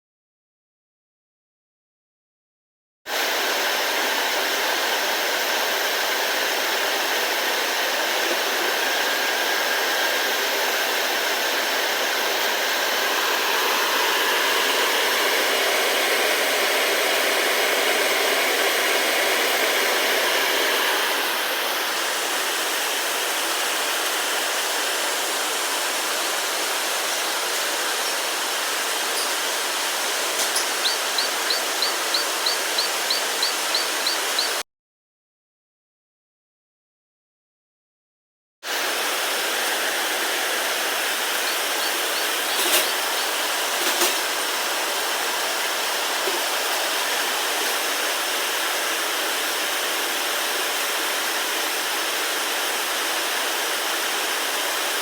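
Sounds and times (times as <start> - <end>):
rushing machine hiss: 3.1 - 34.6, 38.7 - 55.0.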